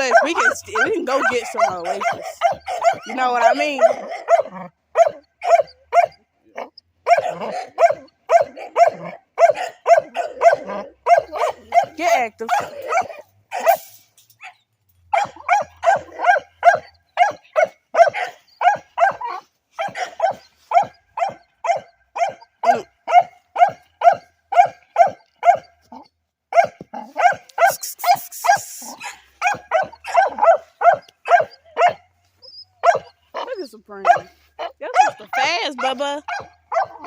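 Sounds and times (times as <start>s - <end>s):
dog barking: 0.0s - 32.1s, 32.8s - 37.0s.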